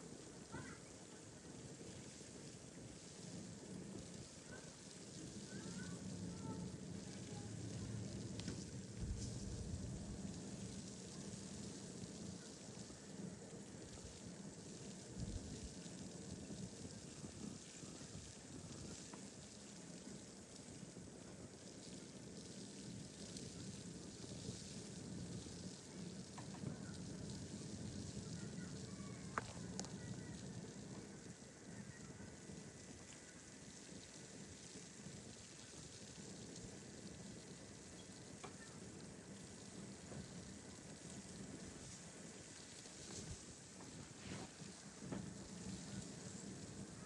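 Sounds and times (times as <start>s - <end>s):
snowstorm hiss: 0.0s - 47.0s
faint ticks: 4.2s - 20.9s, 22.6s - 47.0s.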